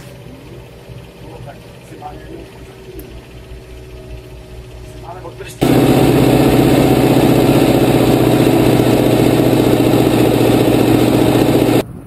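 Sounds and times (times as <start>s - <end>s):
tractor diesel engine running: 0.0s - 11.8s.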